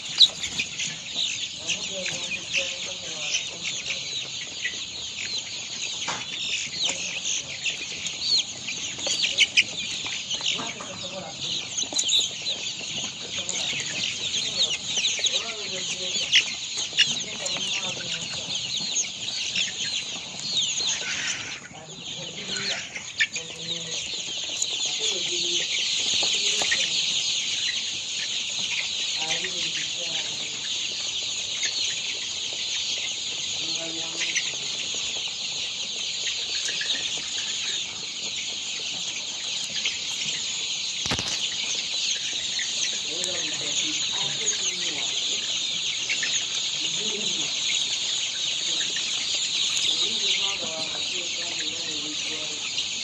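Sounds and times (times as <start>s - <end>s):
chickens clucking: 0.0s - 53.0s
chickens peeping and chirping: 0.0s - 53.0s.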